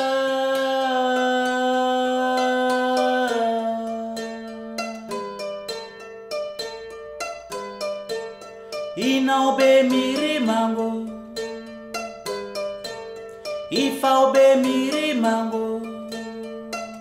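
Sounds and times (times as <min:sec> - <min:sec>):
kora plucked: 0:00.0 - 0:17.0.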